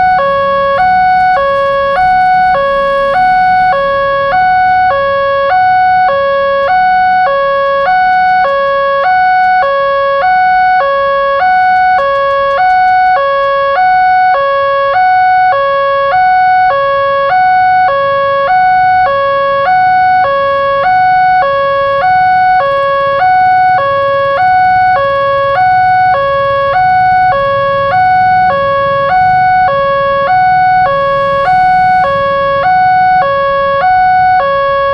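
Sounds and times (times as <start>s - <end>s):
level crossing two-tone alarm: 0.0s - 34.9s.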